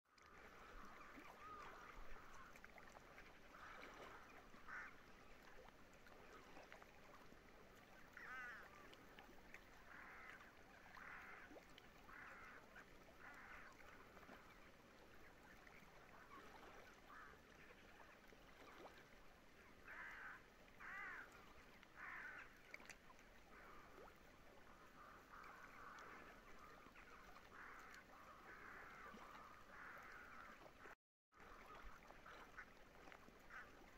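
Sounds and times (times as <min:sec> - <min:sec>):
waterbirds calling: 0:00.2 - 0:33.9.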